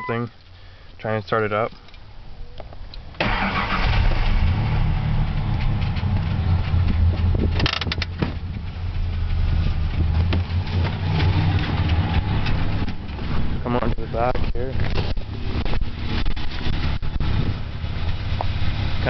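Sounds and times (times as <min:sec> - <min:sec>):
truck engine running rough: 0:03.2 - 0:19.0.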